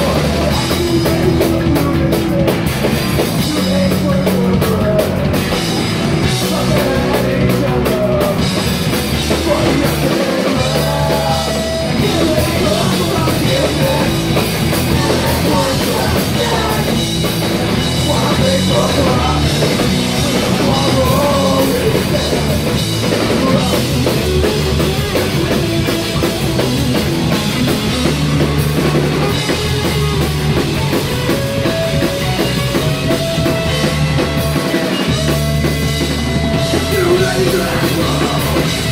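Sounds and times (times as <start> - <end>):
bass guitar: 0.0 - 38.9
distorted electric guitar: 0.0 - 38.9
drum kit: 0.0 - 38.9.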